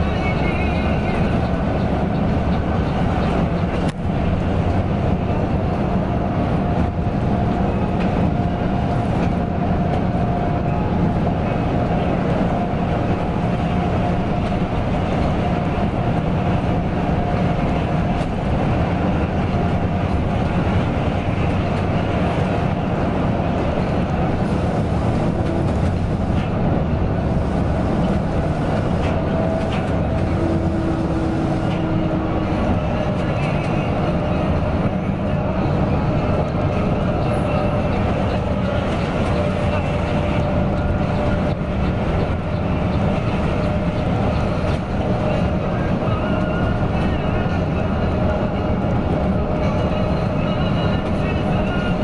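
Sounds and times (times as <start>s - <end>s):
diesel engine drone: 0.0s - 52.0s
road noise: 0.0s - 52.0s.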